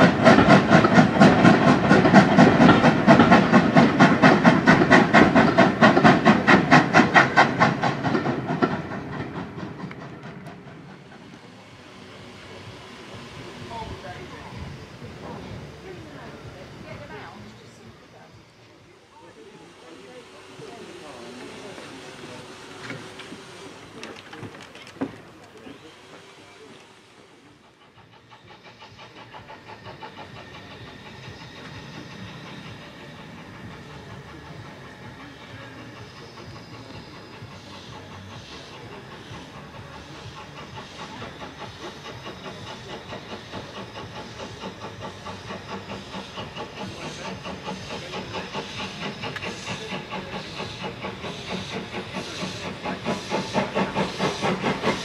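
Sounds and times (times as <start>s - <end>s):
steam engine chuffing: 0.0s - 55.0s.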